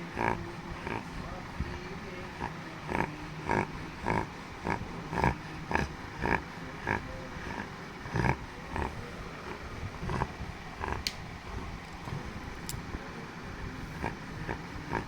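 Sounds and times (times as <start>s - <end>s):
dog snoring: 0.0s - 12.8s, 13.8s - 15.0s.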